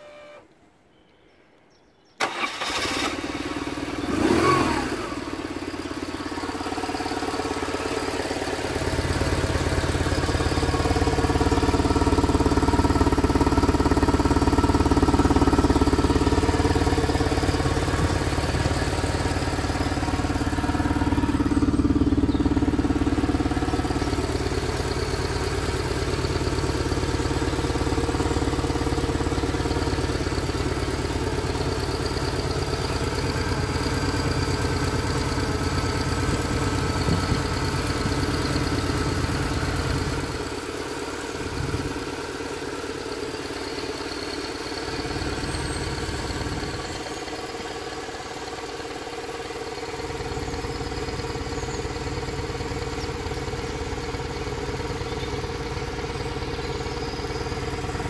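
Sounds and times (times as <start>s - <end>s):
motorcycle engine starting and idling: 2.2s - 58.0s.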